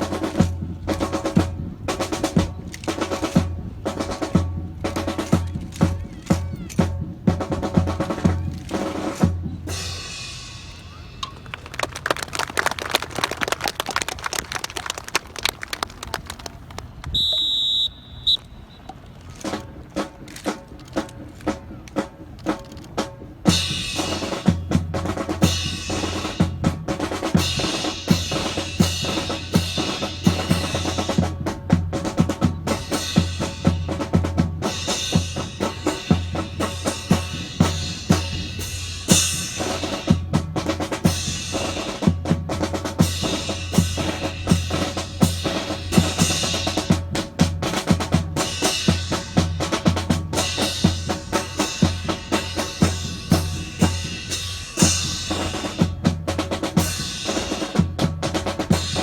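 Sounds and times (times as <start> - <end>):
snare drum strokes and rolls: 0.0 - 18.4, 19.2 - 59.0.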